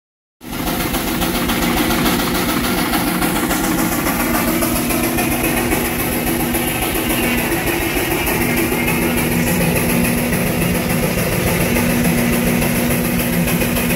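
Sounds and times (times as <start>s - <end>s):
steam engine mechanical hum: 0.4s - 13.9s.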